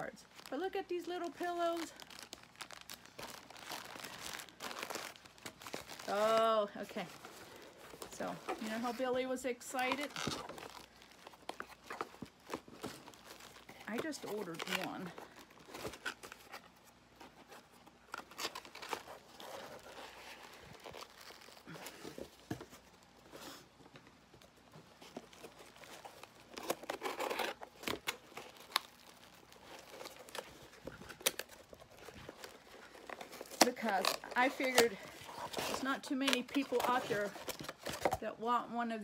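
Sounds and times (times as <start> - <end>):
cardboard and plastic packing rustling: 0.0 - 38.6.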